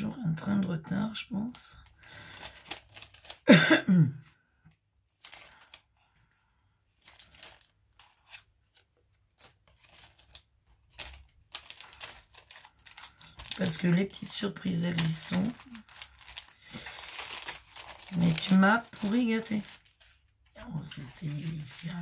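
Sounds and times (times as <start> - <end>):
paper rustling and crinkling: 1.8 - 3.5, 5.1 - 6.4, 7.0 - 22.0.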